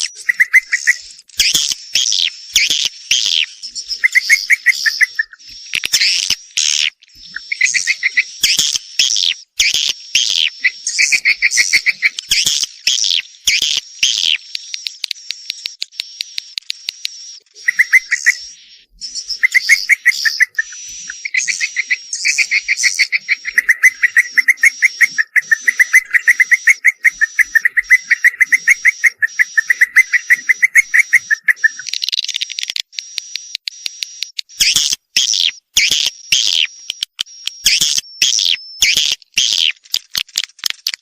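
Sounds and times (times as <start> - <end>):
high bird twitters: 0.0 - 32.7, 34.4 - 40.2
swiftlet clicking chirps: 0.0 - 40.1.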